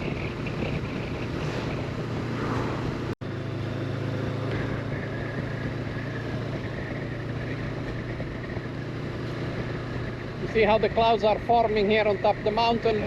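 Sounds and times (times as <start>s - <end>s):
motorcycle engine humming: 0.0s - 13.0s
wind and road noise: 0.0s - 13.0s.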